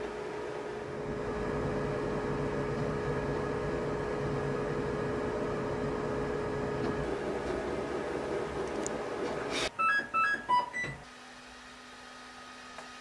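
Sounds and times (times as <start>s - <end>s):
printer fan hum and whine: 0.0s - 13.0s.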